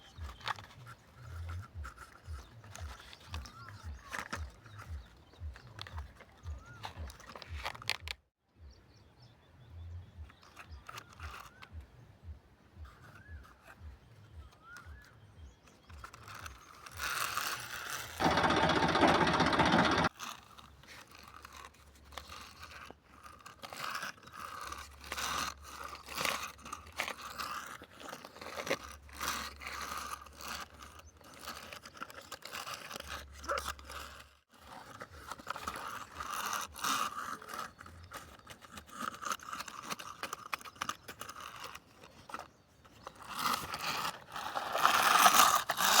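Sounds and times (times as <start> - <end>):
toy vehicles crunching and scraping soil: 0.0 - 8.3, 9.2 - 46.0.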